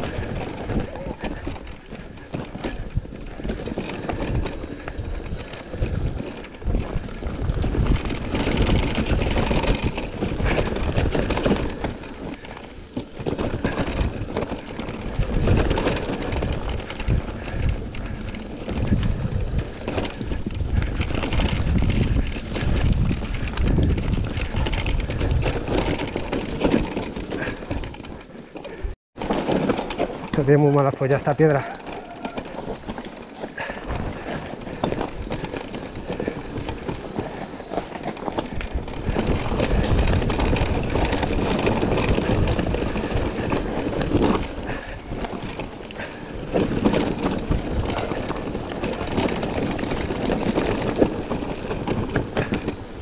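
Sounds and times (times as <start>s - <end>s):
bike rattling and knocking: 0.0s - 53.0s
wind buffeting microphone: 0.0s - 53.0s.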